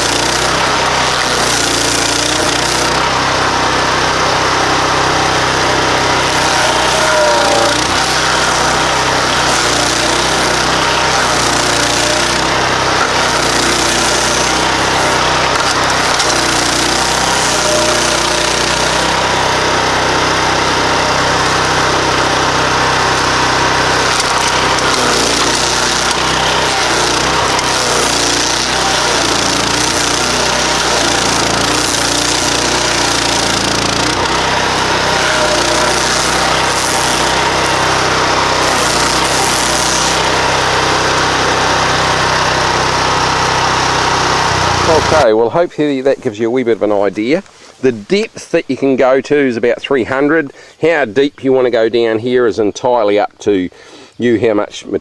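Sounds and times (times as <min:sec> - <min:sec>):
cutting head grinding wood: 0:00.0 - 0:45.4
stump grinder engine running: 0:00.0 - 0:45.4.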